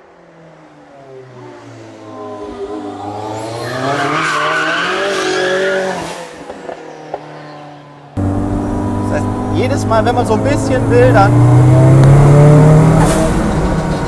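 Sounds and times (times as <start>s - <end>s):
car engine accelerating: 1.5s - 14.0s.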